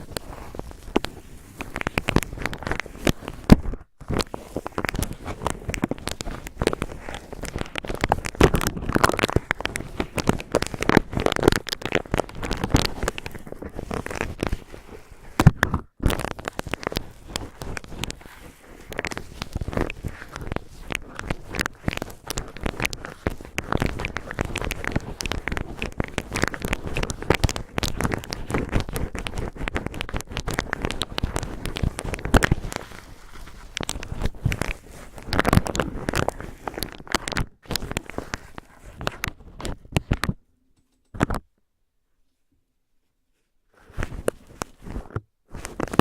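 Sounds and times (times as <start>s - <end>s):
cotton swabs crackling on microphone: 0.0s - 40.3s.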